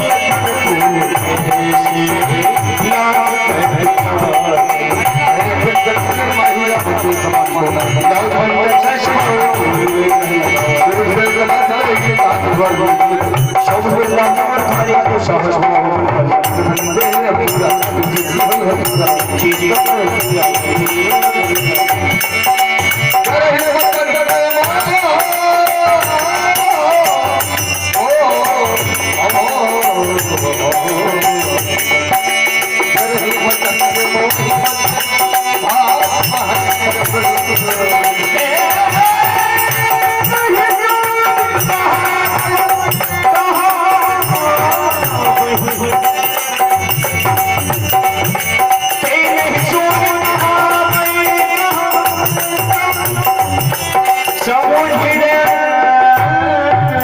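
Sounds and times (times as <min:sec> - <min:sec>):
fast rattling percussion: 0:00.0 - 0:57.0
person singing wavering melody: 0:00.0 - 0:57.0.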